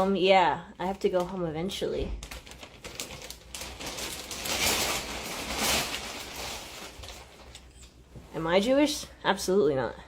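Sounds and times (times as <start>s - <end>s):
plastic bag rustling and crinkling: 0.0s - 8.6s.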